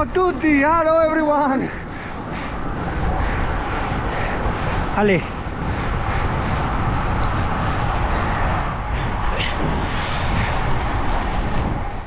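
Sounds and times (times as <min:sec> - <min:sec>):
loud rushing and rumbling noise: 0:00.0 - 0:12.0.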